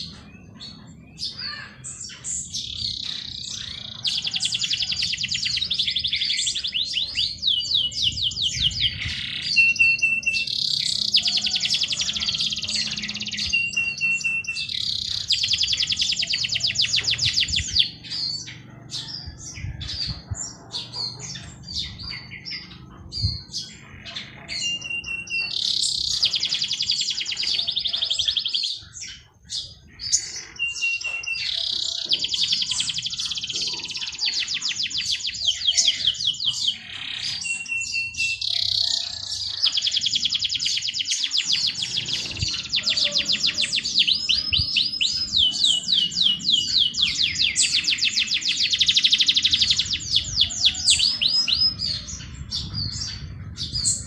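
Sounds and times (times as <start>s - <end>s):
bird chirps: 0.0s - 54.0s
songbird trilling: 0.0s - 54.0s.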